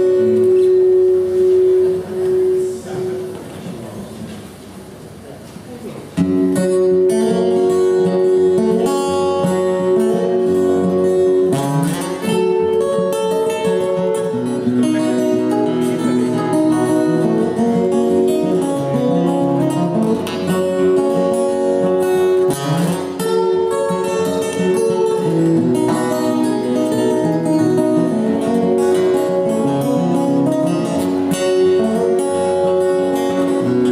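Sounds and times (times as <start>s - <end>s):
acoustic guitars playing: 0.0s - 5.2s, 6.0s - 33.9s.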